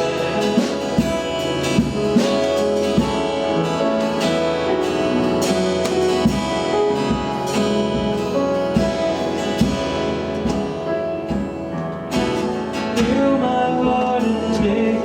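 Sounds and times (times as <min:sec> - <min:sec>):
guitar chords: 0:00.0 - 0:15.0
keyboard chords: 0:00.0 - 0:15.0
steady drum beat: 0:00.0 - 0:15.0.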